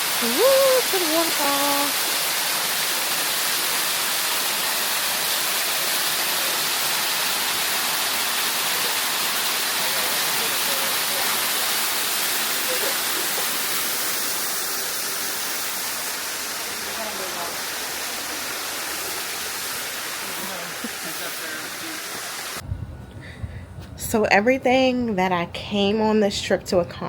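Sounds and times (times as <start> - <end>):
waterfall rushing and splashing: 0.0 - 22.6.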